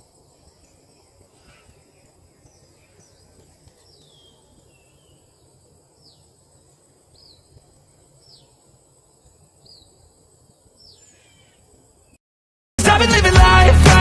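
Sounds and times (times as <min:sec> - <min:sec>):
faint insect chorus trilling: 0:00.0 - 0:12.2.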